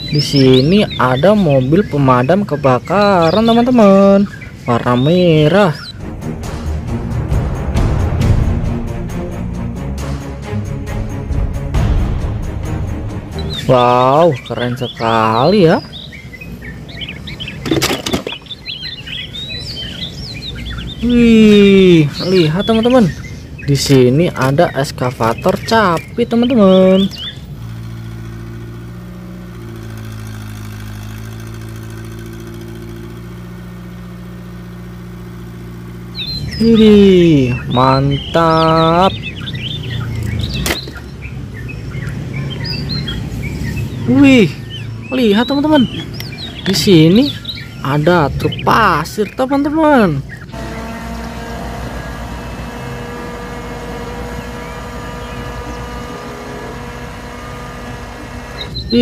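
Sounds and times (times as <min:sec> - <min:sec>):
diesel engine running steadily: 0:00.0 - 0:09.6, 0:10.4 - 0:59.0.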